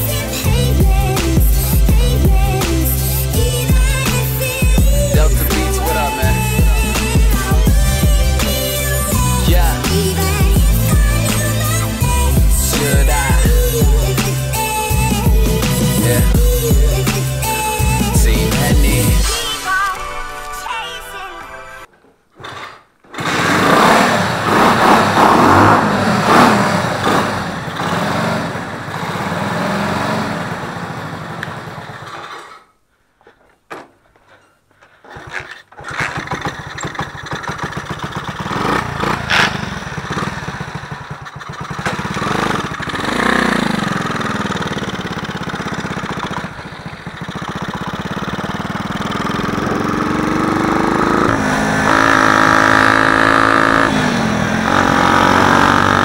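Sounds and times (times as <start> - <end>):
scooter engine revving: 0.0 - 19.4, 22.4 - 32.7, 35.1 - 56.0.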